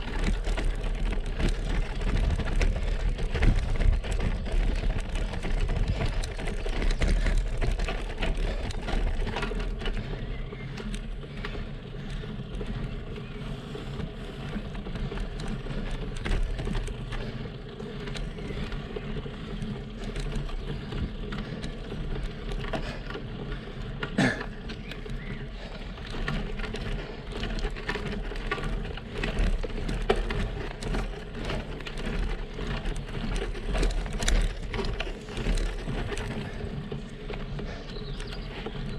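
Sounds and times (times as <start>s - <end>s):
bike rattling over cobblestones: 0.0s - 38.9s.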